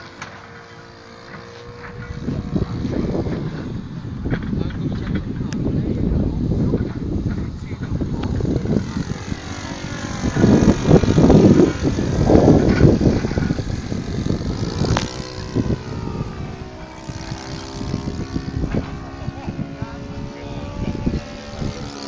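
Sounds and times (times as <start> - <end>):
model airplane propeller droning: 0.0 - 22.0.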